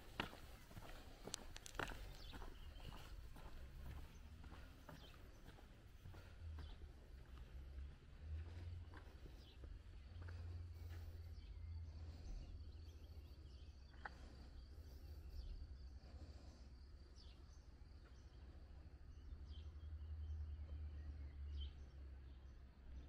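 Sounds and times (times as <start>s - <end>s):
low steady rumble: 0.0s - 21.1s
faint bird chirps: 0.0s - 23.0s.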